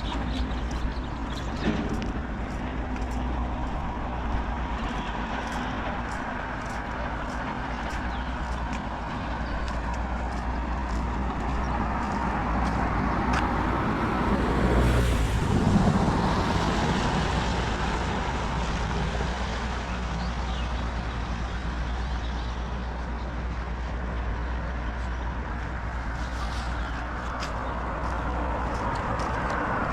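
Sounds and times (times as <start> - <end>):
vehicle passing on wet road: 0.0 - 20.1, 25.7 - 29.9.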